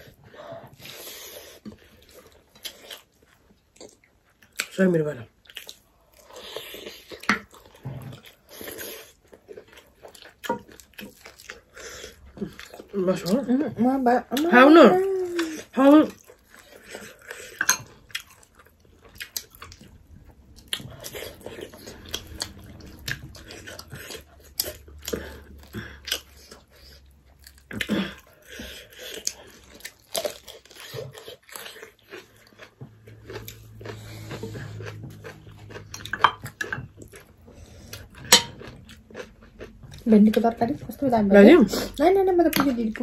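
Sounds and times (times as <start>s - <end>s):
chewing with wet mouth smacks: 0.1s - 13.5s, 15.3s - 43.0s.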